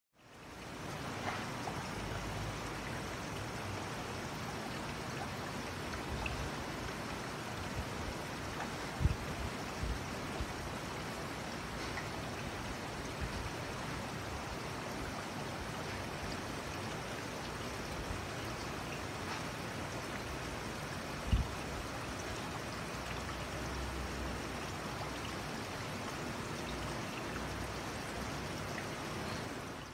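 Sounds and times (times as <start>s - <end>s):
aquarium water trickling: 0.2s - 29.9s.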